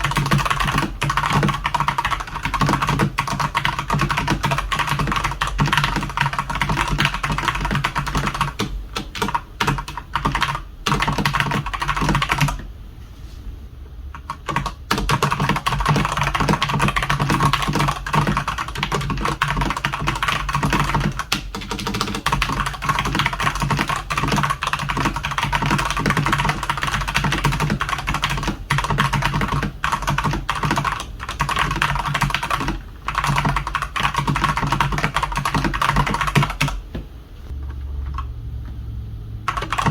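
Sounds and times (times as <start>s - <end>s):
fast typing on mechanical keyboard: 0.0s - 12.6s, 14.2s - 36.8s, 39.5s - 39.9s.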